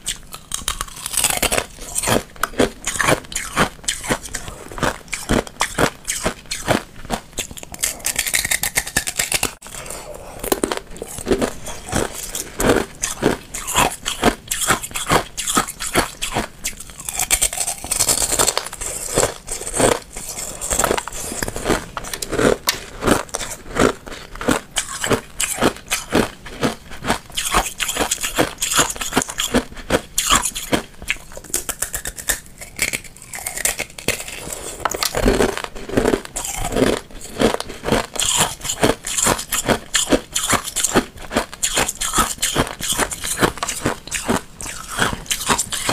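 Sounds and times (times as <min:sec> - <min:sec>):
chewing: 0:00.0 - 0:45.9.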